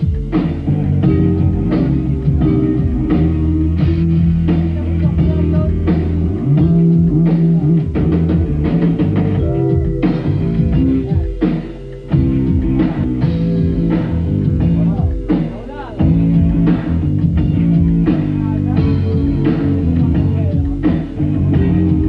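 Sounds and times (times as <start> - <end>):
bass line: 0.0 - 22.0
drum kit hits: 0.0 - 22.0
guitar: 0.0 - 22.0
rock band playing: 0.0 - 22.0.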